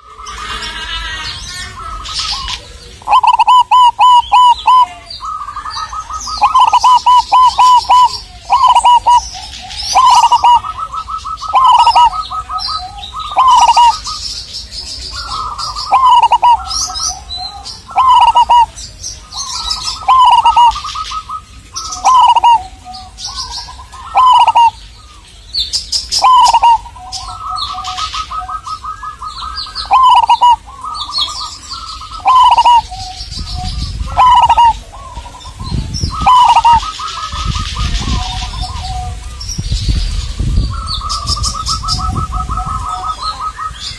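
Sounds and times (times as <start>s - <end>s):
dove cooing: 0.0s - 25.2s, 26.1s - 39.4s, 40.0s - 43.9s.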